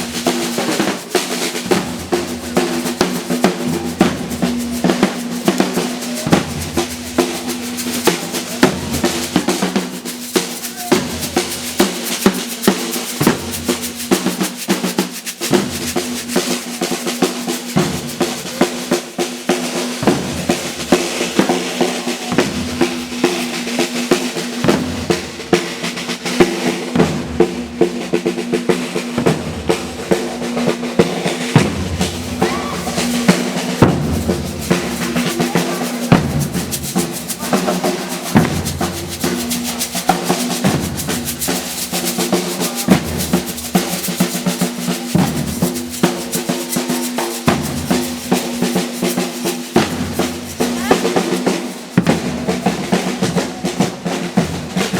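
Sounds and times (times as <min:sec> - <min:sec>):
snare drums rattling: 0:00.0 - 0:54.9.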